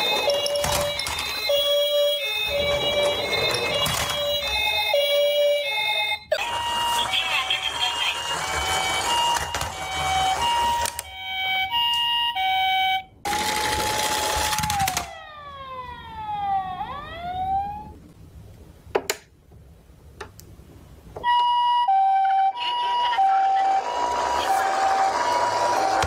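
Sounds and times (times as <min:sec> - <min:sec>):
toy electronic siren: 0:00.0 - 0:18.0, 0:21.2 - 0:26.0.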